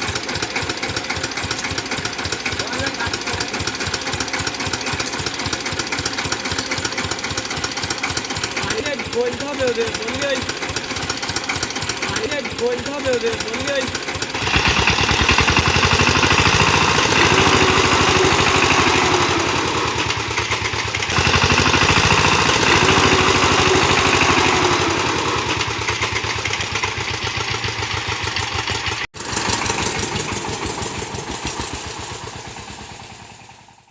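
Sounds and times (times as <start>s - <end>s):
power tiller engine running: 0.0s - 33.9s.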